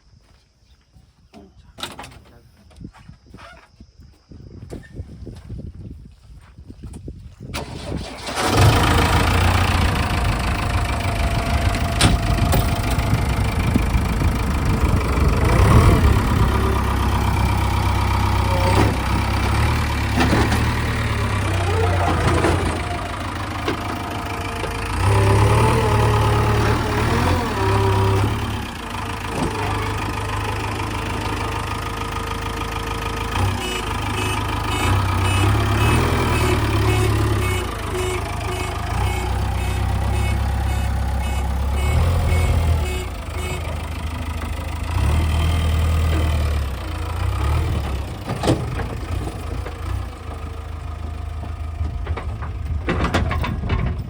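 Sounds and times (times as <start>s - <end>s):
diesel engine running: 7.6s - 54.0s.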